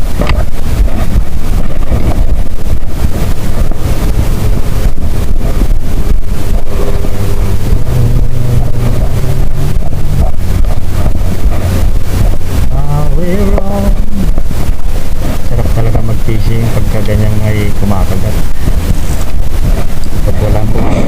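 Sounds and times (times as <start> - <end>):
steady low hum: 0.0 - 21.0
wind buffeting microphone: 0.0 - 21.0.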